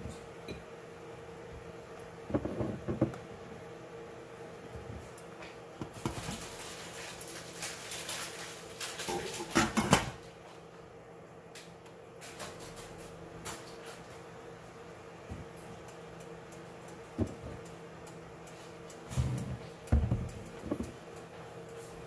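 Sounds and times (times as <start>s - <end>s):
steady low hum: 0.0s - 7.6s, 10.2s - 22.0s.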